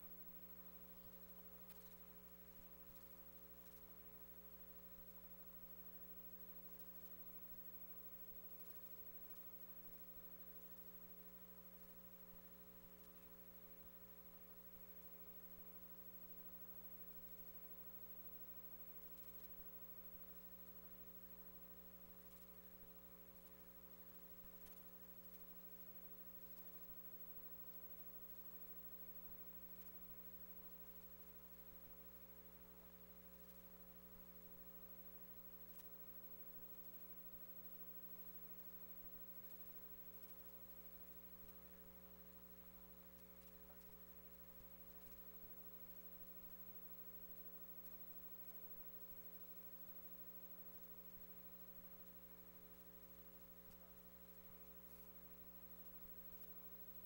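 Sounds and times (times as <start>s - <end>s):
electrical mains hum: 0.0s - 57.0s
faint ticks: 0.0s - 57.0s.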